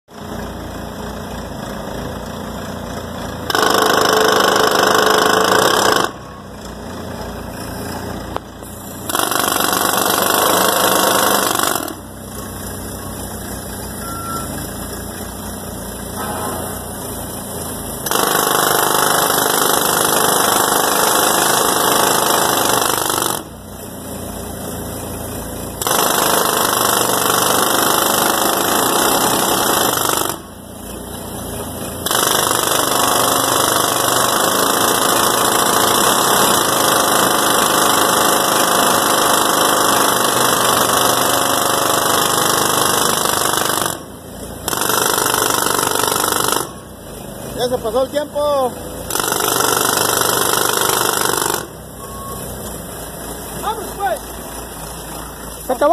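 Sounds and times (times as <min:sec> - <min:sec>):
forklift engine running: 0:00.1 - 0:55.9
jackhammer breaking concrete: 0:00.2 - 0:55.9.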